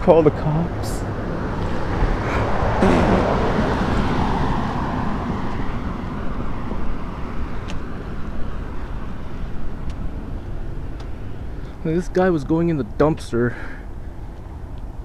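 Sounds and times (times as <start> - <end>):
traffic low rumble: 0.0 - 15.0
vehicle passing: 0.0 - 15.0.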